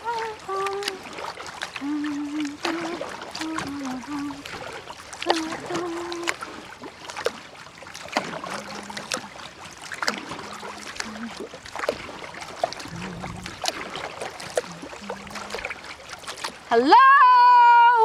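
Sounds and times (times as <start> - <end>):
water trickling: 0.0 - 17.9
paddle splashing and dripping: 0.0 - 18.0.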